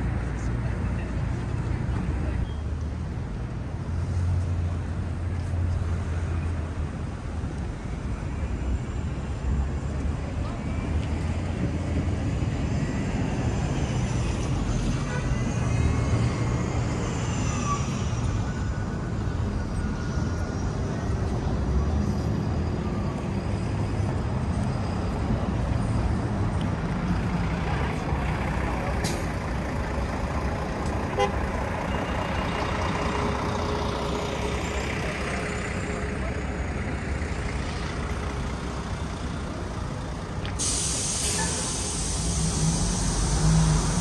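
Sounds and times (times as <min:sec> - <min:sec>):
city street traffic: 0:00.0 - 0:44.0
vehicle engine rumble: 0:00.0 - 0:44.0.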